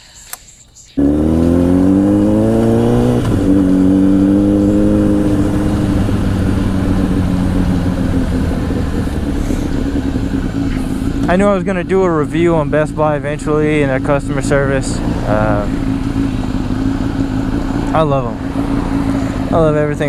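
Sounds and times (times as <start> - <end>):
motorcycle engine revving: 1.0 - 20.0.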